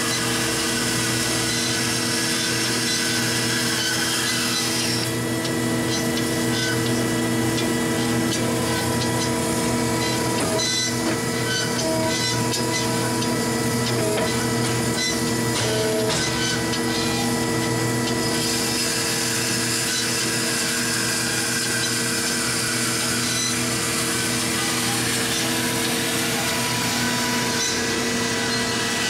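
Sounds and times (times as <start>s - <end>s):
band saw cutting wood: 0.0s - 29.0s
steady machine hum: 0.0s - 29.0s.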